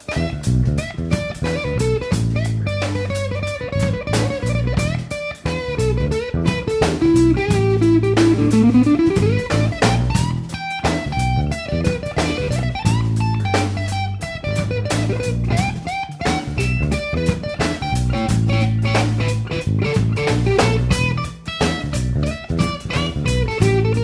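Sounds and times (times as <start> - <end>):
drum kit beat: 0.0 - 24.0
guitar: 0.0 - 24.0.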